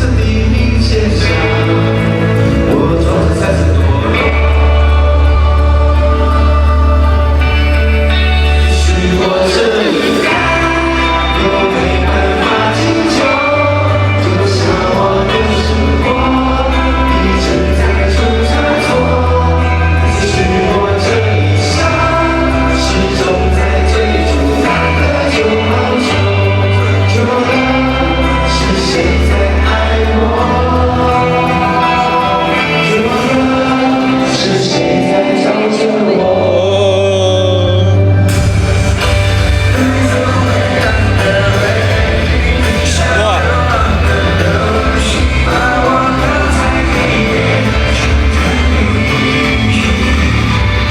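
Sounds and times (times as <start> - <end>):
live pop band playing: 0.0 - 50.9
person singing: 0.0 - 50.9
sung vocals: 0.0 - 50.9.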